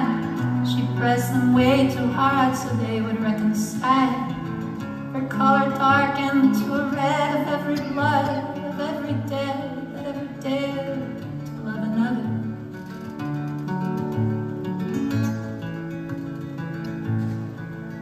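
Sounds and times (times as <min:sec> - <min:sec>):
acoustic guitar: 0:00.0 - 0:18.0.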